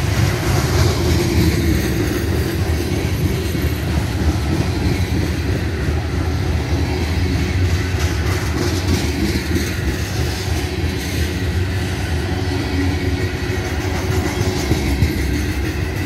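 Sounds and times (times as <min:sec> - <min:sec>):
steel wheels rumbling on rails: 0:00.0 - 0:16.0.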